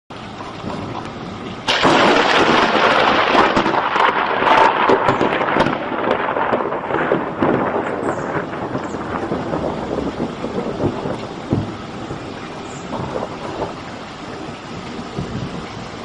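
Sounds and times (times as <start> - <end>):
rain hissing: 0.1 - 16.0
thunderclap rolling: 0.1 - 16.0.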